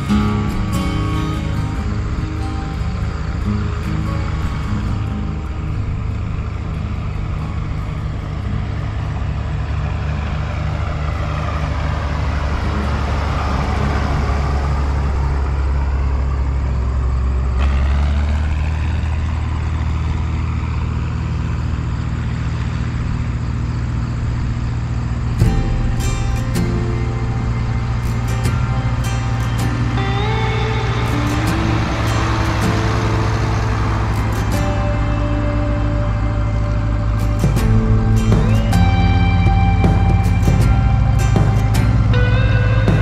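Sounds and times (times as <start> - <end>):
tractor engines running: 0.0 - 43.0.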